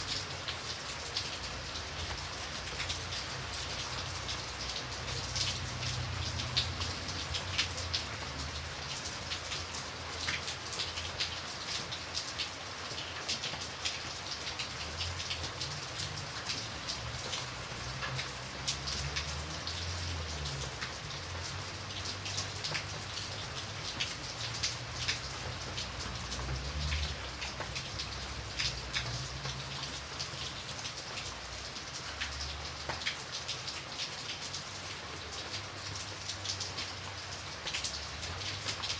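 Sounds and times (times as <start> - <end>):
rain hiss: 0.0 - 38.9
raindrops ticking on a surface: 0.0 - 38.9.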